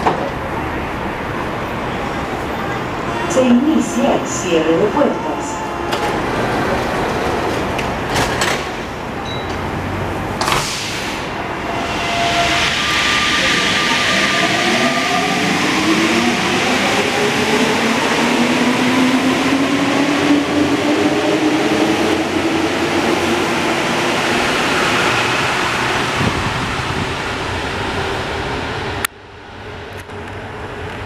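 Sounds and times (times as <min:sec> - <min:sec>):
train running noise: 0:00.0 - 0:31.0.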